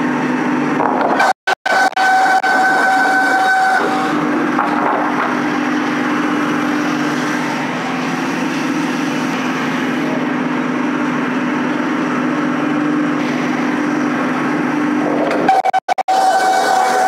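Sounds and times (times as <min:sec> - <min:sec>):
saw machine running: 0:00.0 - 0:17.0.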